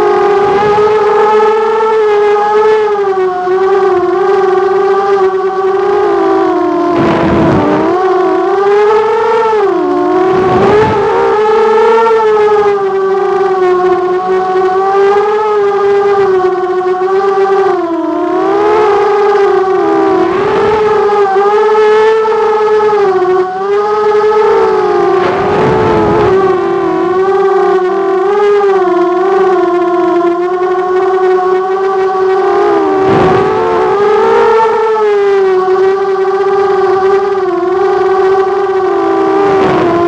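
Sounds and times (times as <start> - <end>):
quadcopter motors whining: 0.0 - 40.0.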